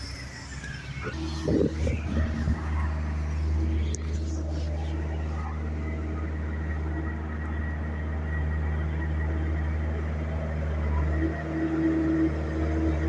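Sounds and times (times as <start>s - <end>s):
motor vehicle engine drone: 0.0s - 13.0s.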